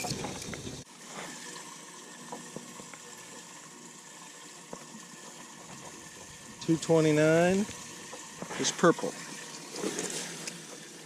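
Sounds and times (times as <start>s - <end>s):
aerator pump bubbling water: 0.0s - 11.0s.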